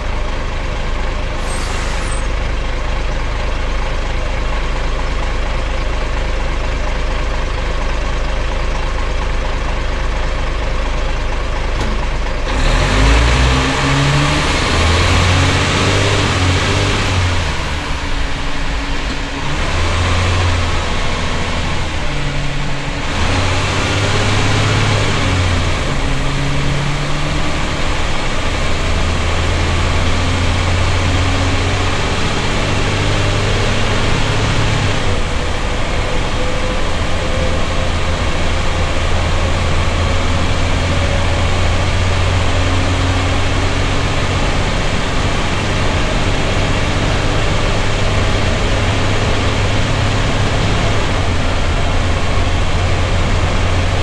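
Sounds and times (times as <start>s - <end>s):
diesel bus engine: 0.0s - 54.0s.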